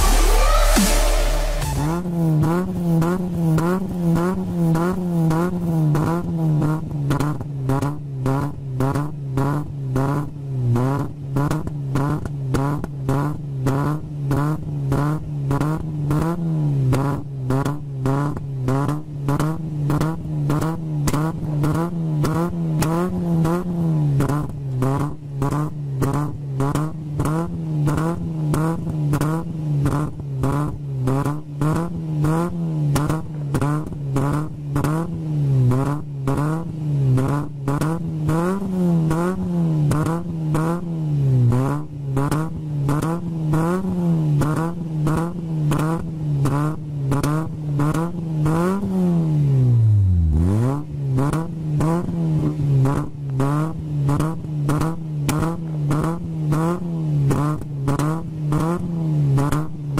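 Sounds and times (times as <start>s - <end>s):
car engine revving: 0.0s - 59.7s.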